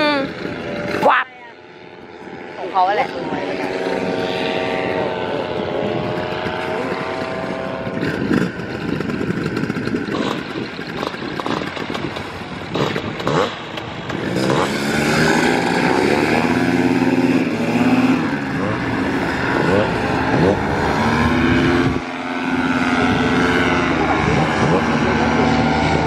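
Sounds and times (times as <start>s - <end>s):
paramotor engine and propeller: 0.0s - 26.0s.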